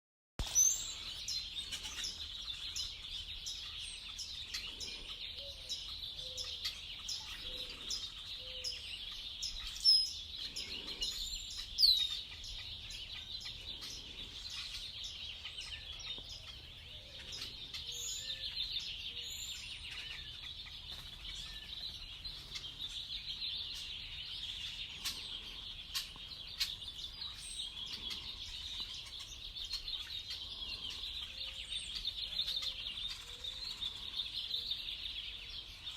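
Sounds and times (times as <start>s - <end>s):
birds chirping: 0.4s - 35.9s.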